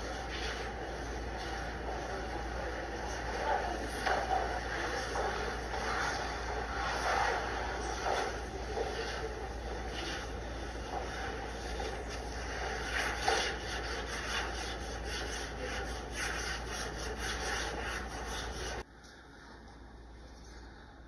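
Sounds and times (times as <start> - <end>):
hands rubbing on paper: 0.0 - 18.8
steady low hum: 0.0 - 21.0.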